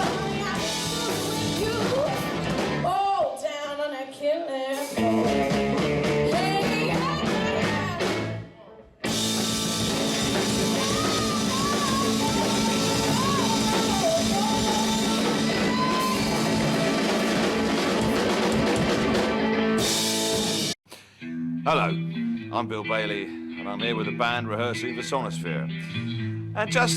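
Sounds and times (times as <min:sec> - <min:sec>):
rock music with singing: 0:00.0 - 0:26.9.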